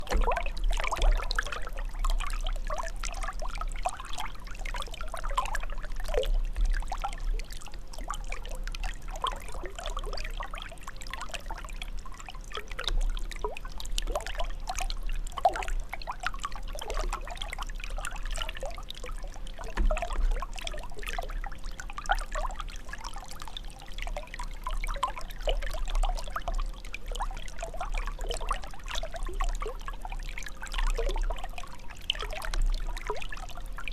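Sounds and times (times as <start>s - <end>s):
water trickling and gurgling: 0.0s - 33.9s.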